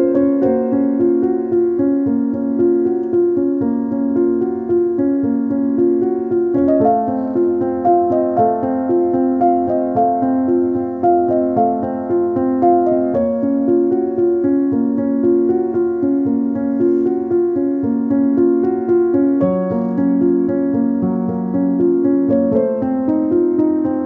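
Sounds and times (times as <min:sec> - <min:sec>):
background piano music: 0:00.0 - 0:24.0.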